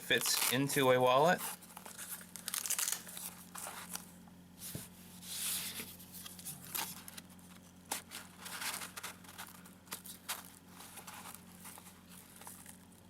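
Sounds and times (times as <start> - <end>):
wallet rustling and scraping: 0.1 - 13.0.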